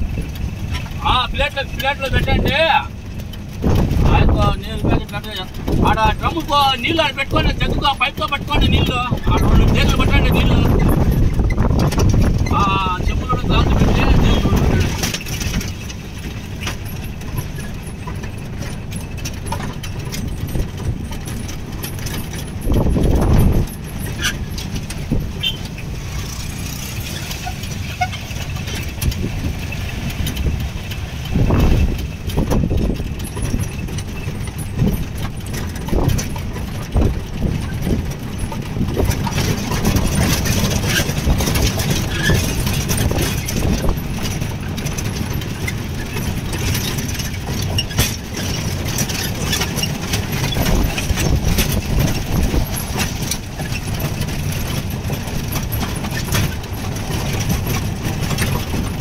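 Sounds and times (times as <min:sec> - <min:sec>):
body rattles and clicks: 0:00.0 - 0:59.0
jeep engine running: 0:00.0 - 0:59.0
low rumbles: 0:00.0 - 0:59.0
wind noise: 0:03.4 - 0:59.0.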